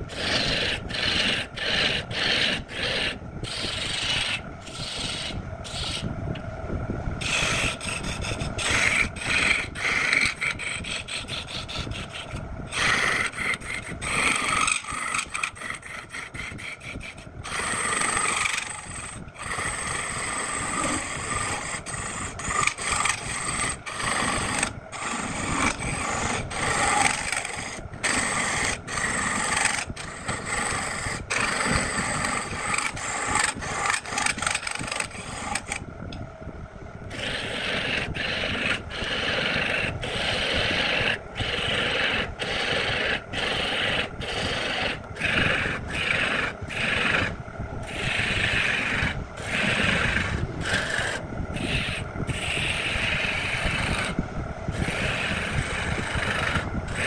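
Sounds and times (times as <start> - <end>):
lathe tool scraping wood: 0.0 - 6.1, 7.2 - 35.8, 37.0 - 57.0.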